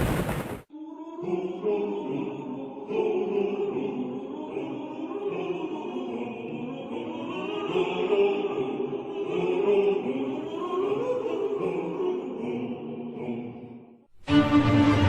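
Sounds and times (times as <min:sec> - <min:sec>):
choir singing sustained notes: 0:00.7 - 0:15.0.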